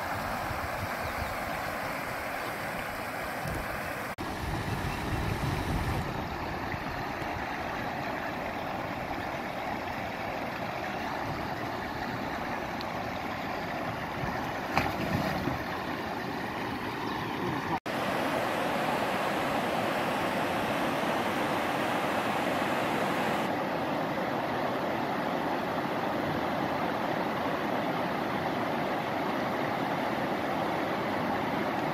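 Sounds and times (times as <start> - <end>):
water rushing over rocks: 5.2 - 31.9.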